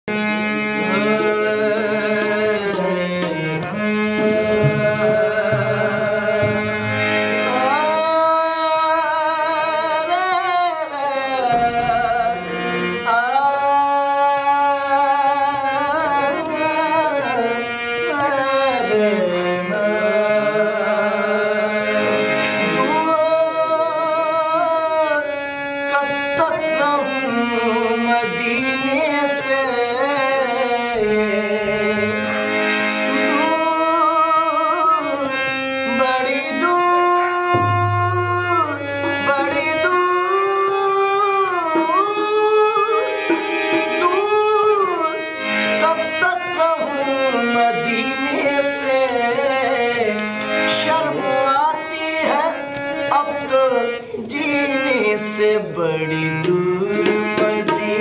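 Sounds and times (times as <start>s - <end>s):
harmonium sustained notes: 0.0s - 58.0s.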